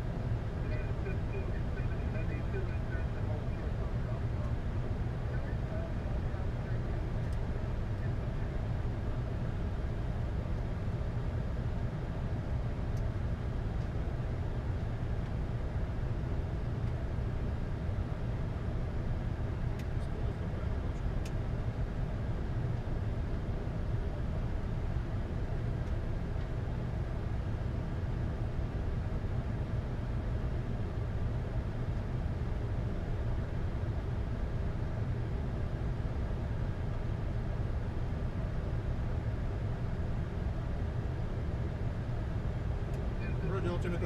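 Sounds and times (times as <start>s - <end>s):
airliner flight deck rumble: 0.0s - 44.0s.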